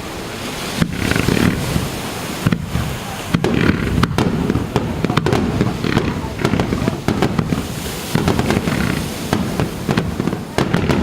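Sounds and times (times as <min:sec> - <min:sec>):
firework bangs and crackles: 0:00.0 - 0:11.0
low rumble of detonations: 0:00.8 - 0:11.0.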